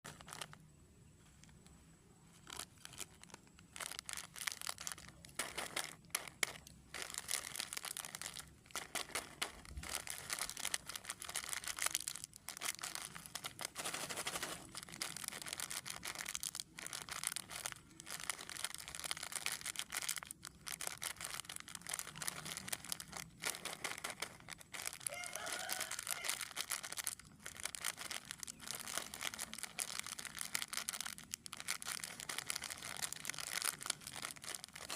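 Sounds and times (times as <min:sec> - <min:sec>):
plastic wrappers crinkling and tearing: 0:00.0 - 0:00.6, 0:02.3 - 0:34.9.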